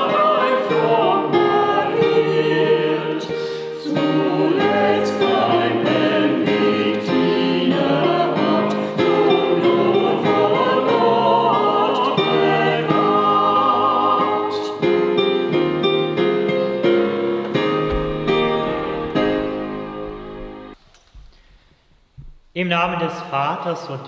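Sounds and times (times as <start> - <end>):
choir singing a hymn: 0.0 - 20.8
piano accompaniment: 0.0 - 20.8.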